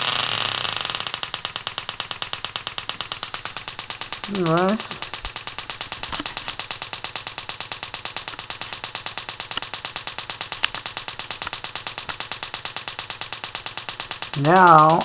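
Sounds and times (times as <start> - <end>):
sharp snapping spark clicks: 0.0 - 15.0.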